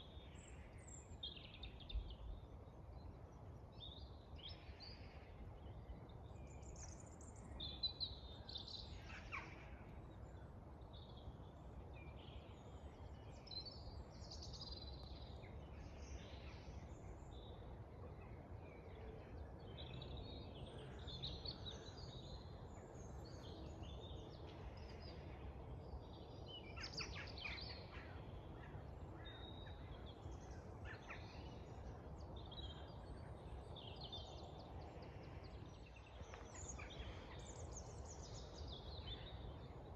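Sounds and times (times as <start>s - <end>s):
low steady background noise: 0.0s - 39.9s
songbirds chirping and warbling: 0.0s - 39.9s.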